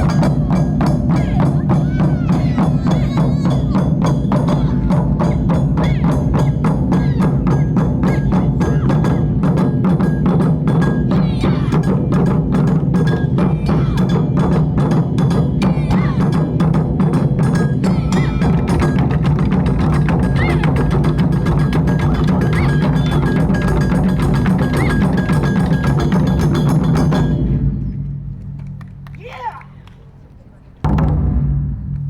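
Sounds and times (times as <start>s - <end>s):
taiko drum ensemble drumming: 0.0s - 29.4s, 30.8s - 32.0s.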